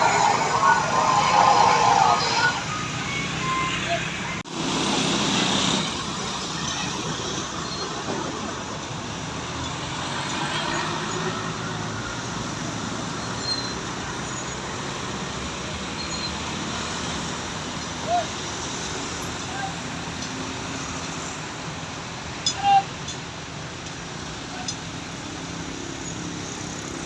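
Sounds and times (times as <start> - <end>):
passing vehicles rushing: 0.0 - 27.0.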